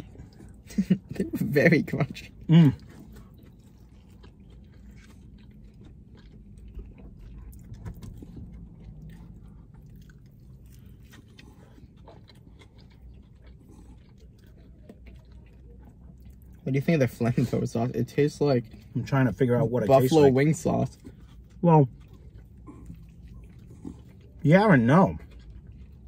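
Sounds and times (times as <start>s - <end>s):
chewing and biting food: 0.0s - 26.0s
low steady hum: 0.0s - 26.0s.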